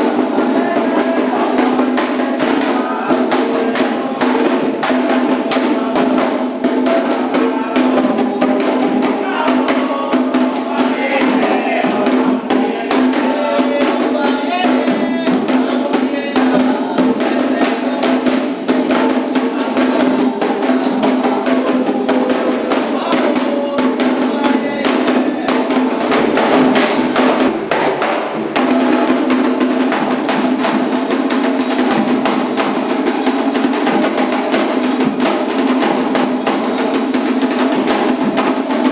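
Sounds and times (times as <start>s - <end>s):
hand drums playing fast rhythm: 0.0s - 38.9s
voices over drums: 0.0s - 38.9s.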